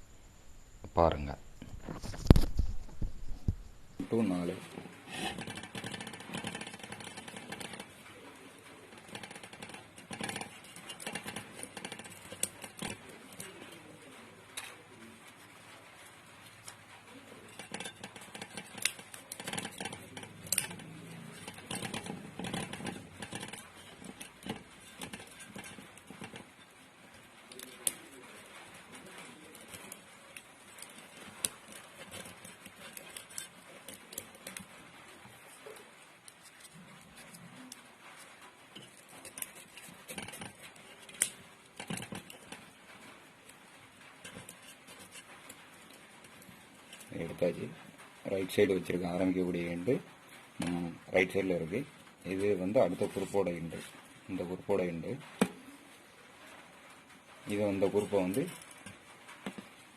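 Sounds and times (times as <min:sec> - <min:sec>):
hands handling wire and motor parts: 0:04.0 - 0:55.7, 0:57.4 - 0:59.9.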